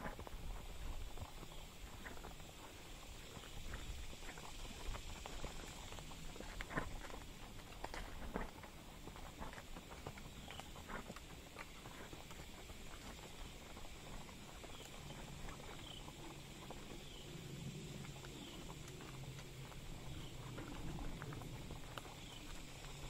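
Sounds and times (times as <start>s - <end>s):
horse hooves on dirt: 0.0s - 23.0s.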